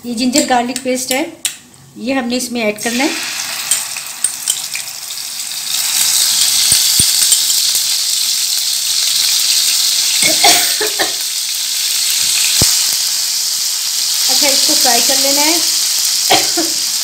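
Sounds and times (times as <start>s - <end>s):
paste sizzling in hot oil: 2.8s - 17.0s.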